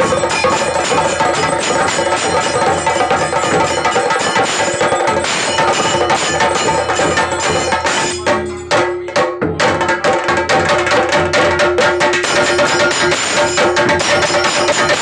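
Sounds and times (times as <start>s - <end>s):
barrel drums beaten fast: 0.0s - 15.0s.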